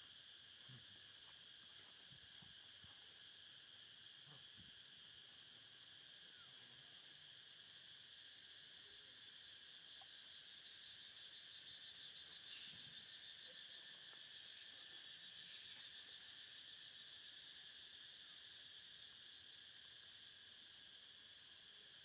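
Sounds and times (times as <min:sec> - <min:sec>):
shrill insect chorus: 0:00.0 - 0:22.0.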